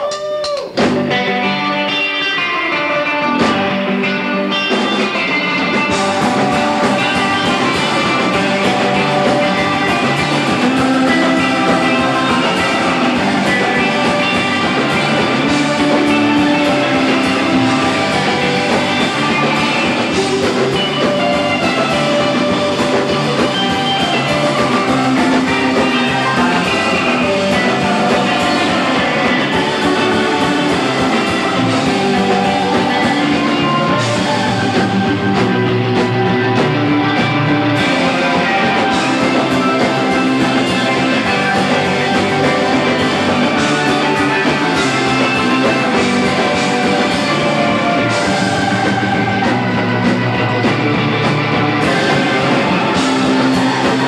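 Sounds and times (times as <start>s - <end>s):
surf rock band playing: 0.0s - 54.0s.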